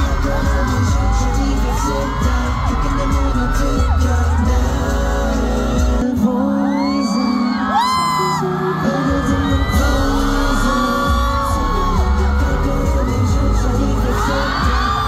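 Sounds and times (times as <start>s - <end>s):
crowd screaming and cheering: 0.0s - 15.0s
pop song over sound system: 0.0s - 15.0s.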